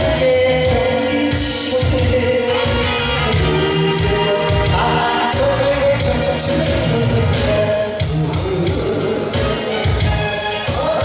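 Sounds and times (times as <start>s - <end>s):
man singing into a microphone: 0.0s - 10.0s, 10.6s - 11.0s
amplified backing track with beat: 0.0s - 11.0s.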